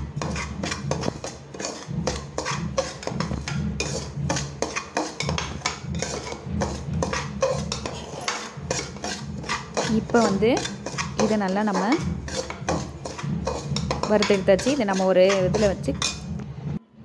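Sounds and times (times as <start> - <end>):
spoon scraping a metal pan: 0.0 - 16.4.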